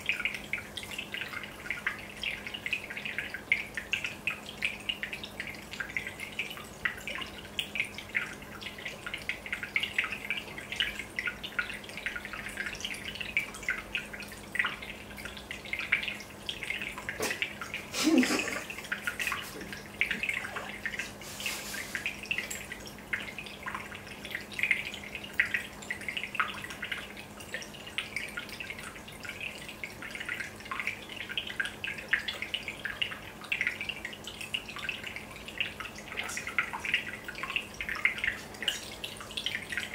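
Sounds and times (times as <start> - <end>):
aquarium bubbles popping: 0.0 - 39.9.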